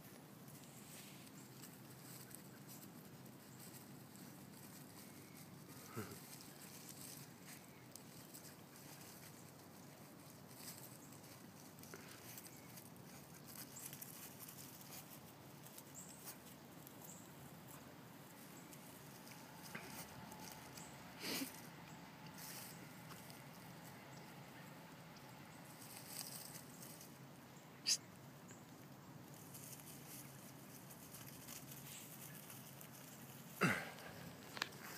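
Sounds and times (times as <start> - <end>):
puppies rustling in dry leaves: 0.0 - 34.9.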